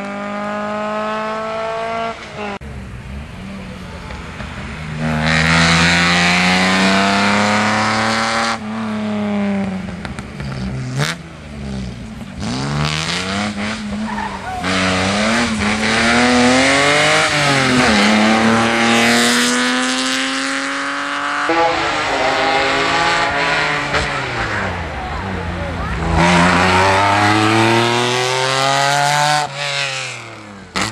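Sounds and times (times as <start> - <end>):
rally car engines at full throttle: 0.0 - 30.9.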